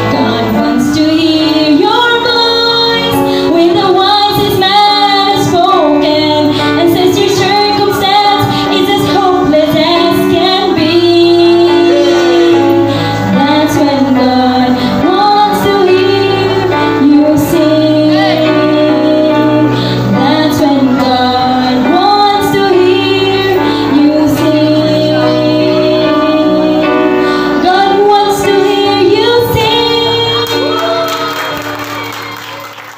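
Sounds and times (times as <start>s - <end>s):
woman singing into a microphone: 0.0s - 32.3s
instrumental accompaniment: 0.0s - 32.9s.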